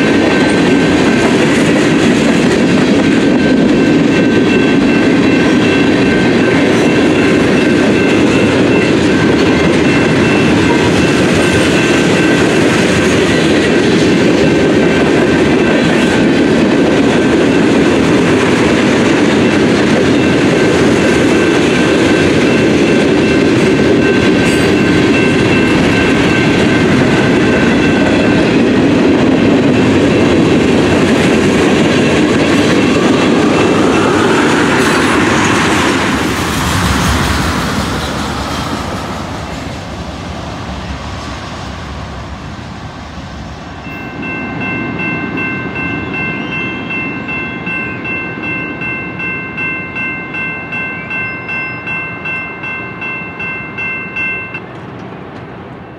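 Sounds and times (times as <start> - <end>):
crossing bell ringing: 0.0 - 37.8, 43.7 - 54.8
freight train wheels clattering: 0.0 - 55.7.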